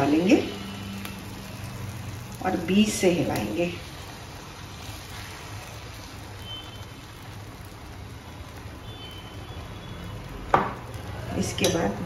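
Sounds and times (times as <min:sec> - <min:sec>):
batter hissing in a pan: 0:00.0 - 0:12.0.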